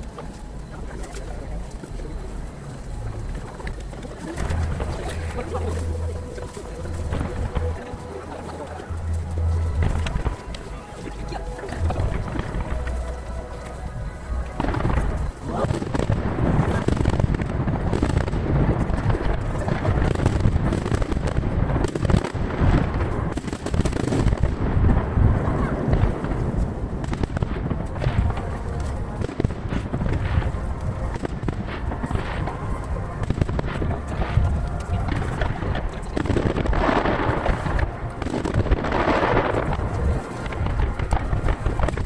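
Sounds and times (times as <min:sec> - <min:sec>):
distant fireworks booming and crackling: 0:00.0 - 0:42.0.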